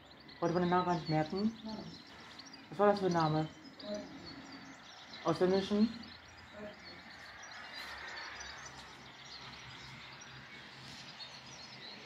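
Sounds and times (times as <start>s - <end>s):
distant town noise: 0.0s - 12.0s
small birds chirping: 0.0s - 12.0s.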